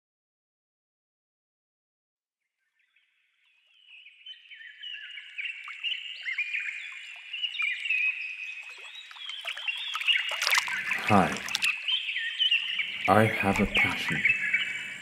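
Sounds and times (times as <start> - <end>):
chorus of birds chirping: 2.7 - 15.0.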